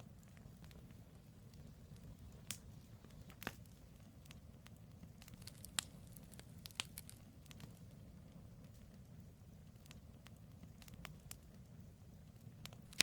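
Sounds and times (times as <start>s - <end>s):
campfire crackling and popping: 0.0s - 13.0s
low steady rumble: 0.0s - 13.0s.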